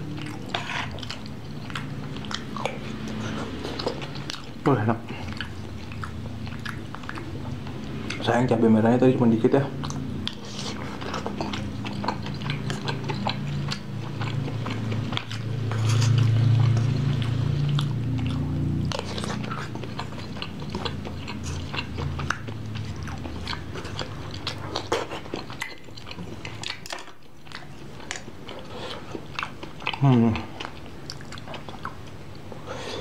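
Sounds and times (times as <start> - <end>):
person chewing: 0.0 - 8.3, 9.6 - 33.0.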